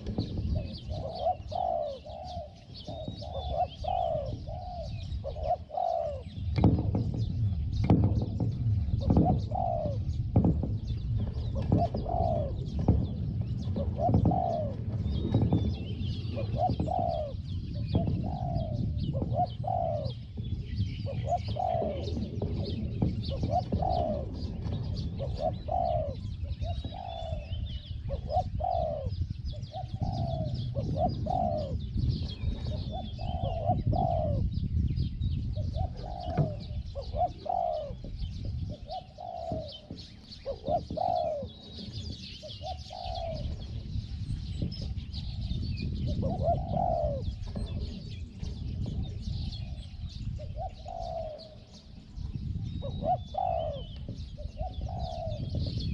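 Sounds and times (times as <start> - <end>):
doves cooing: 0.0 - 34.8, 35.4 - 55.9
small birds chirping faintly: 0.0 - 55.9.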